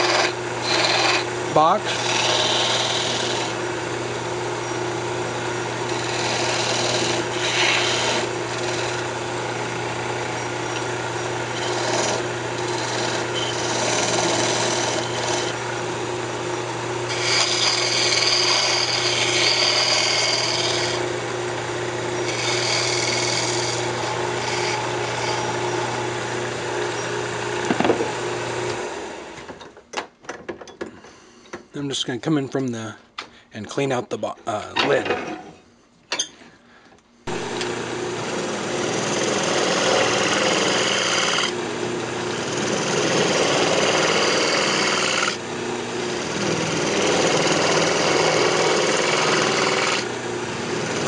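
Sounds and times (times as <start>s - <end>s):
wood lathe humming: 0.0s - 29.5s, 37.3s - 51.0s
turning tool cutting wood: 0.0s - 29.6s, 37.3s - 51.0s.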